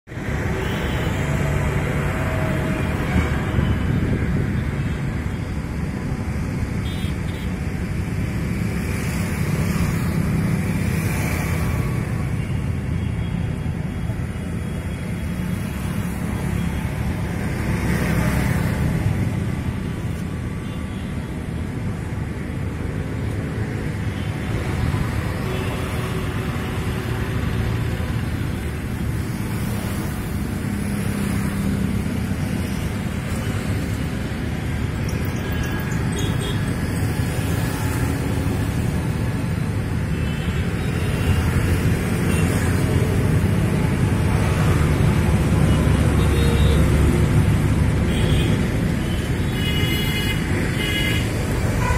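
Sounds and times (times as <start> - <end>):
street traffic: 0.0 - 51.9
vehicles passing: 0.0 - 51.9.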